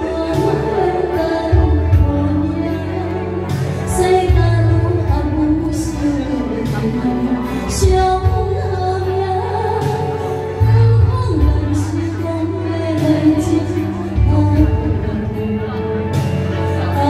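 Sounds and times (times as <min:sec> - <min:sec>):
backing music with bass line: 0:00.0 - 0:17.0
woman singing into a microphone: 0:00.0 - 0:17.0.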